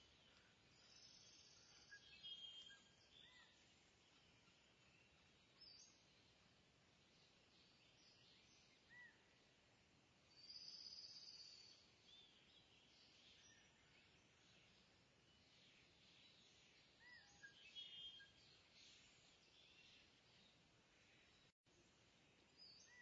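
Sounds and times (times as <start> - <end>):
faint bird chirps: 0.0 - 6.4, 7.0 - 9.4, 10.3 - 23.0.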